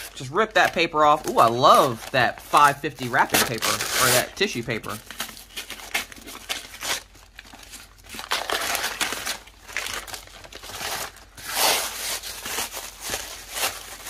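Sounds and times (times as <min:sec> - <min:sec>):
paper crinkling and tearing: 0:00.0 - 0:14.0.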